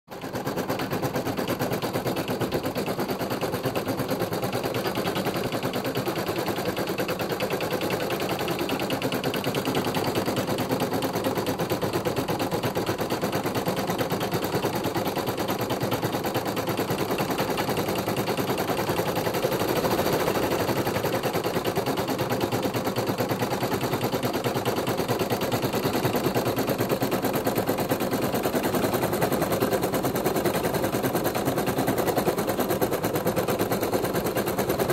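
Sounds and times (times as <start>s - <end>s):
embroidery machine stitching: 0.1s - 34.9s.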